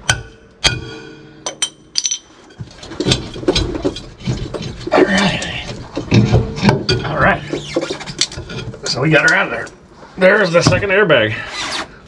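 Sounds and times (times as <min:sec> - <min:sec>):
metal rattles: 0:00.0 - 0:09.8.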